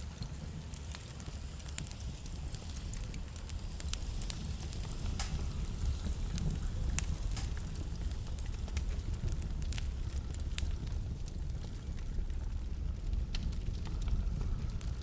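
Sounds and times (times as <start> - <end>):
burning logs crackling: 0.0 - 15.0
low rumble of flames: 0.0 - 15.0.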